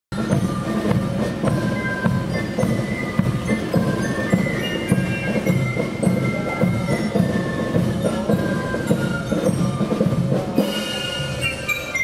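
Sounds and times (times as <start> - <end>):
steady drum beat: 0.1 - 11.5
marching band playing: 0.2 - 12.0.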